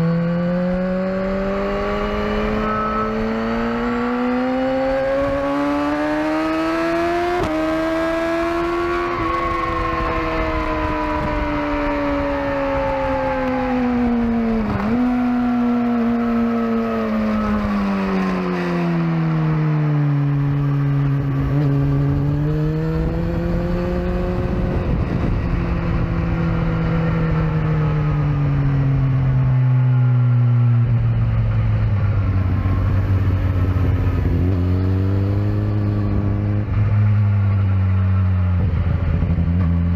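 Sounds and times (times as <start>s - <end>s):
sport motorcycle engine ridden hard: 0.0s - 39.9s.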